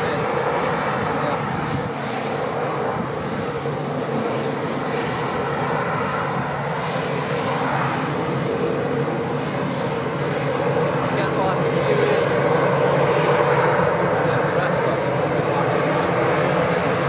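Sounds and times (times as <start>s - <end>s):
jet engines at taxi power: 0.0s - 17.0s.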